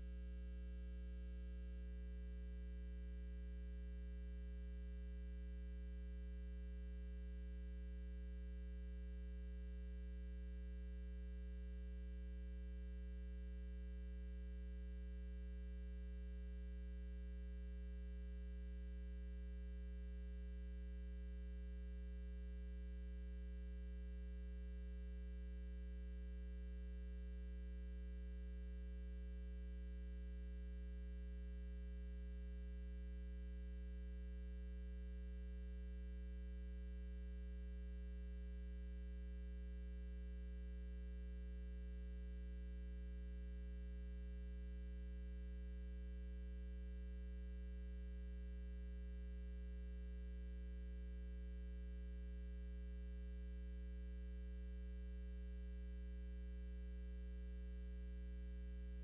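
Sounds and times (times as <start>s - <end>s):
mains hum: 0.0s - 59.0s.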